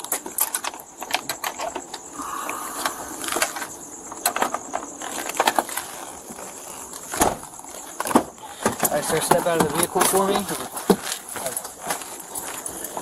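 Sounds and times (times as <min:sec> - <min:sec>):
crackling rustles: 0:00.0 - 0:13.0.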